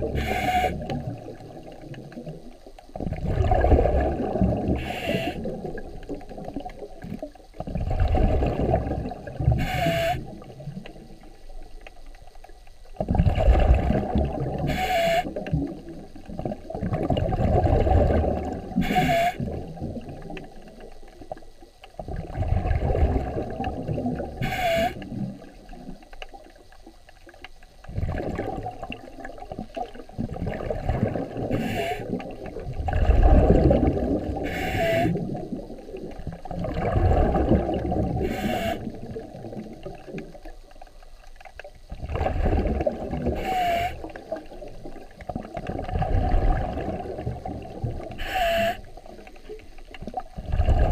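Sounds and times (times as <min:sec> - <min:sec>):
underwater bubbling: 0:00.0 - 0:50.9.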